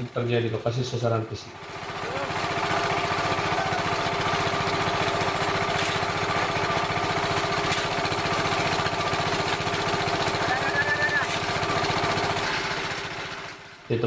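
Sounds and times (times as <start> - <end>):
concrete mixer engine chugging: 0.0 - 14.0.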